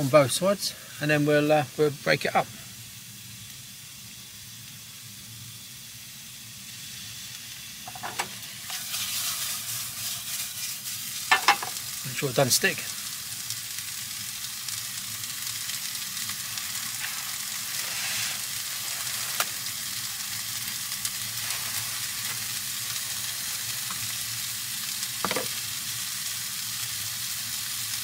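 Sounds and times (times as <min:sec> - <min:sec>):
chicken sizzling in a frying pan: 0:00.0 - 0:28.0
sharp pops of frying: 0:05.6 - 0:28.0.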